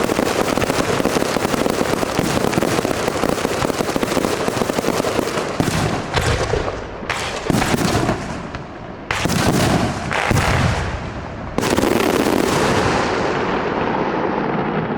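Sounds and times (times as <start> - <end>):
firework bursts: 0.0 - 14.9
firework crackling: 0.0 - 14.9.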